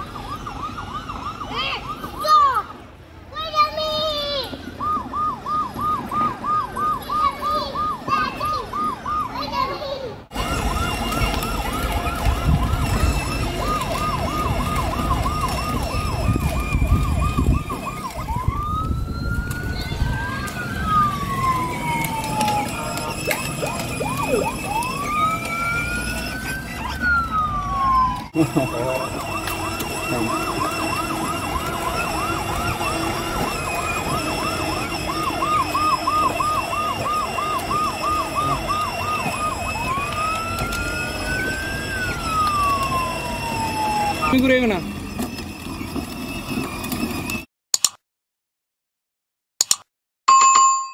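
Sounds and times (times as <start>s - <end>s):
electronic police siren: 0.0s - 2.5s, 4.7s - 47.5s.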